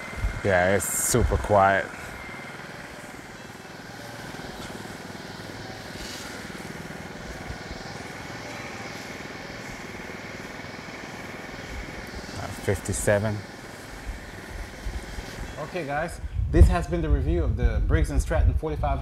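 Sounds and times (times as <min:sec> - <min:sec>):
generator engine running: 0:00.0 - 0:16.4.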